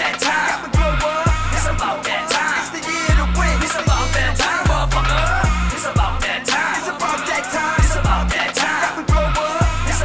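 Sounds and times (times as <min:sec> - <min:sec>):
hip-hop beat: 0:00.0 - 0:10.0.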